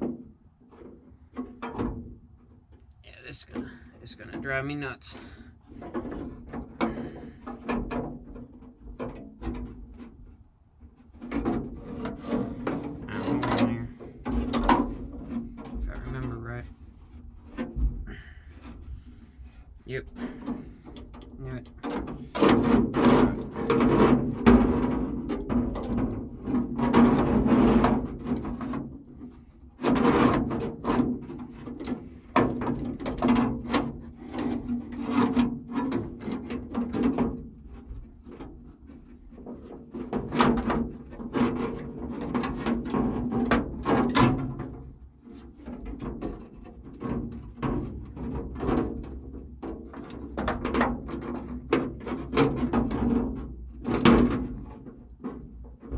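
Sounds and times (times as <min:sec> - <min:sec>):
metallic clunks and scrapes: 0:00.0 - 0:02.8, 0:03.5 - 0:55.9.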